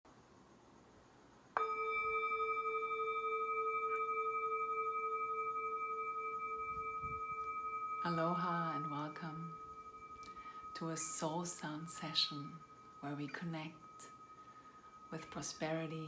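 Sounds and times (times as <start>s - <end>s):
singing bowl ringing: 1.6s - 16.0s.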